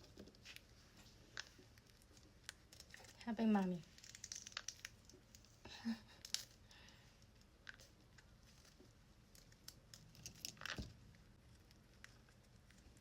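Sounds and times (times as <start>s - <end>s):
faint clicks and crinkles: 0.0s - 13.0s.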